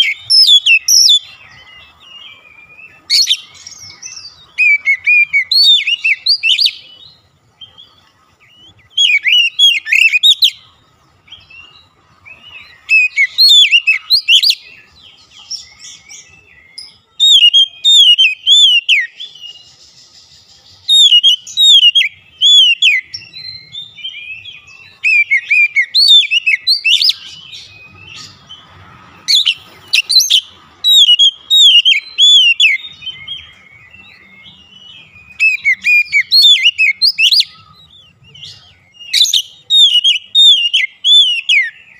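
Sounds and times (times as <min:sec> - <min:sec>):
bird singing whistled notes: 0:00.0 - 0:41.9.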